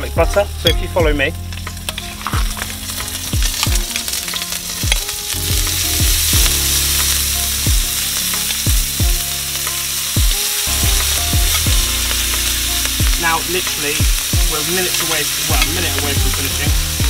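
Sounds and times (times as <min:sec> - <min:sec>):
background music: 0:00.0 - 0:17.0
food sizzling in frying pan: 0:00.0 - 0:17.0.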